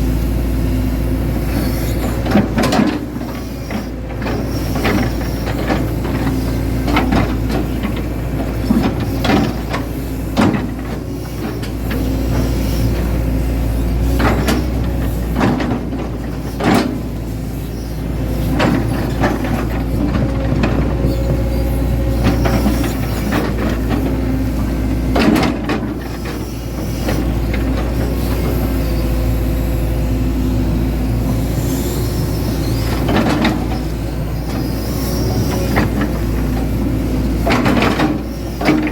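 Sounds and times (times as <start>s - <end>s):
excavator diesel engine running: 0.0s - 38.9s
excavator knocks and clanks: 1.0s - 38.9s.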